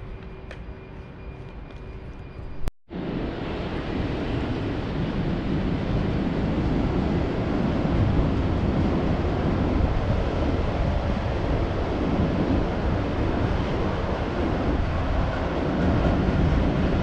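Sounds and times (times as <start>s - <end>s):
wind buffeting microphone: 2.4s - 17.0s.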